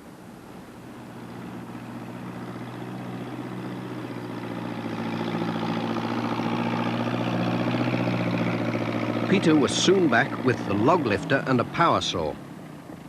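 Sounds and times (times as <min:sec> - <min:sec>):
diesel engine running: 0:00.2 - 0:13.0.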